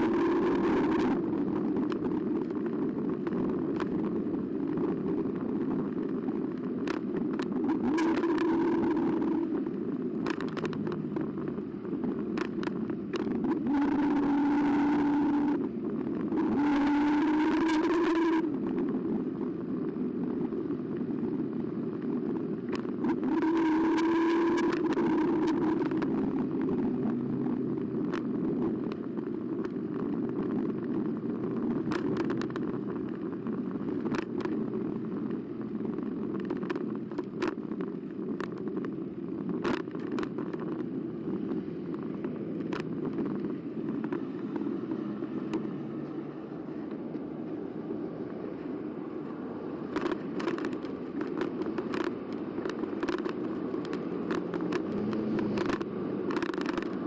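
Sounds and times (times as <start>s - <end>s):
sharp clicks and ticks: 0.0s - 46.2s, 49.2s - 57.0s
ebike riding rumble: 0.0s - 57.0s.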